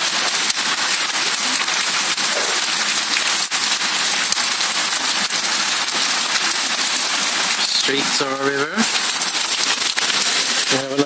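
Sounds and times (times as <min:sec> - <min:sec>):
heavy rain hiss: 0:00.0 - 0:11.0
raindrops on paving and leaves: 0:00.0 - 0:11.0.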